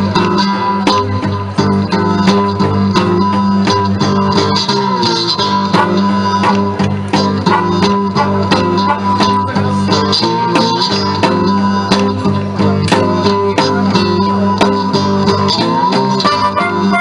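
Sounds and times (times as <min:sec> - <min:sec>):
blues guitar playing: 0:00.0 - 0:17.0
low bass notes: 0:00.0 - 0:17.0.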